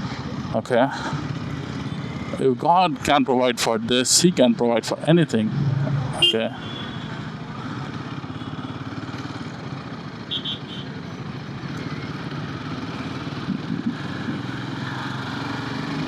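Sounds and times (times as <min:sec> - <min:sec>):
motorcycle engine running: 0:00.0 - 0:03.4, 0:05.4 - 0:16.0
road noise: 0:00.0 - 0:16.0.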